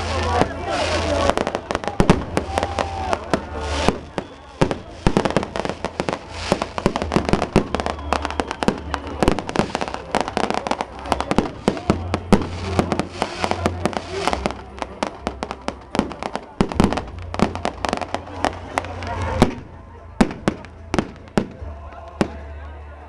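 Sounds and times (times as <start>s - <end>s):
firecrackers banging: 0.0s - 22.5s
crowd voices: 0.0s - 23.0s.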